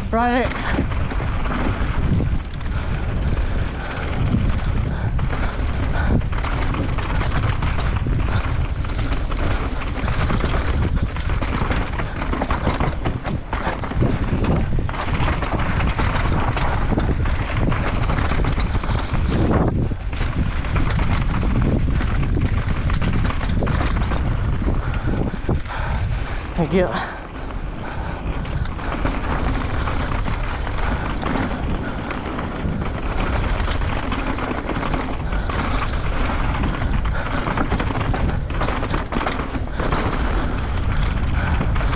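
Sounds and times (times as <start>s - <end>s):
mountain bike clattering: 0.0s - 41.9s
wind buffeting microphone: 0.0s - 41.9s.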